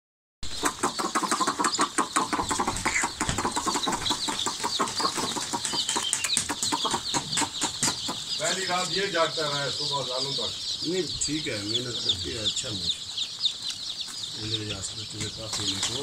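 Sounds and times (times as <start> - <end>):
chicks peeping: 0.4 - 16.0.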